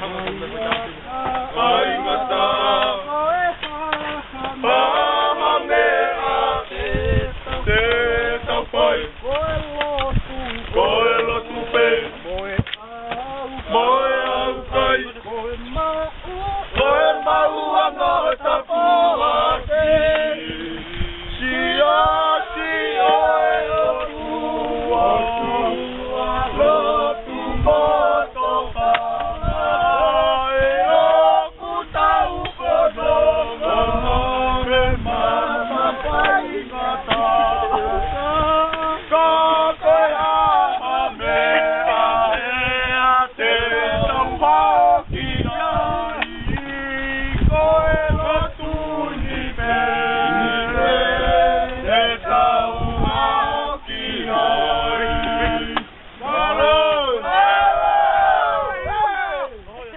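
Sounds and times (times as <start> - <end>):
men singing unaccompanied: 0.0 - 59.9.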